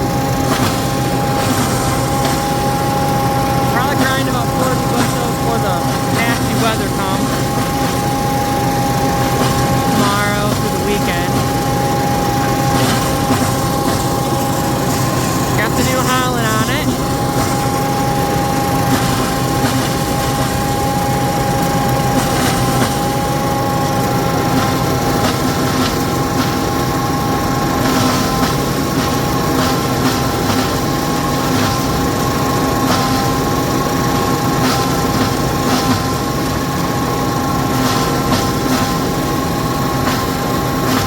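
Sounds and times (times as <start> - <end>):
multi-tone mechanical whine: 0.0 - 41.0.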